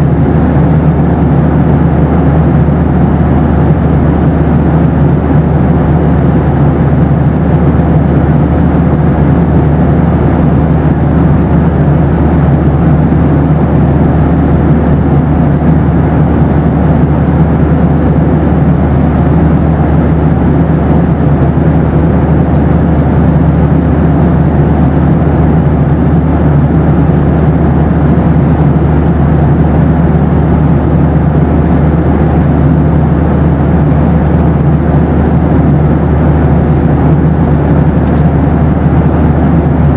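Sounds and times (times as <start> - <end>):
airplane cabin rush: 0.0 - 39.9
faint steady hum: 0.0 - 39.9.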